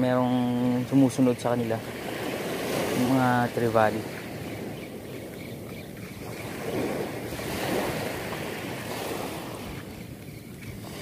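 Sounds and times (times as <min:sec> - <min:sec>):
surf waves breaking on beach: 0:00.0 - 0:11.0
wind buffeting microphone: 0:00.0 - 0:11.0.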